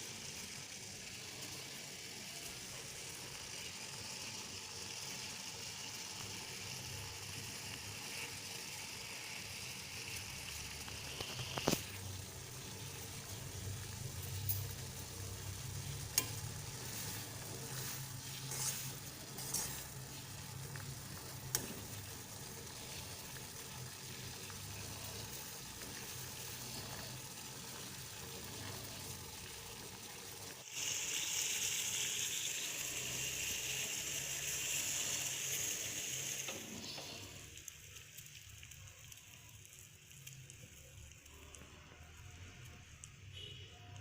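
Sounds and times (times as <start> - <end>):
food sizzling: 0.0 - 44.0.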